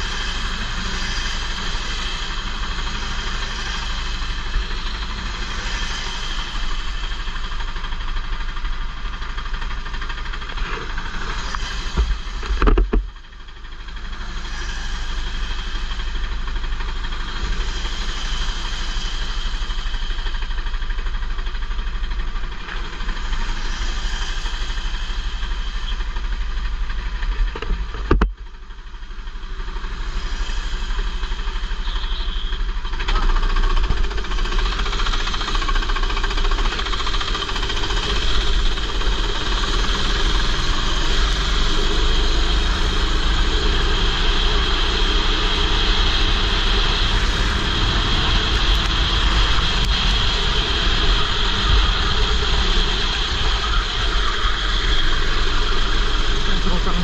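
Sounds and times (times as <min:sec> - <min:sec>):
racing kart engine: 0:00.0 - 0:57.0.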